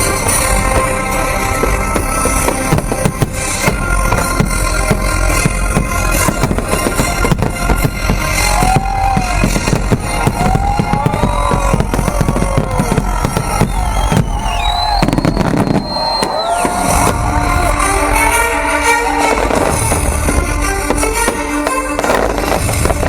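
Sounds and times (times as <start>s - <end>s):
fireworks bangs and crackling: 0.0s - 23.0s
loud music: 0.0s - 23.0s.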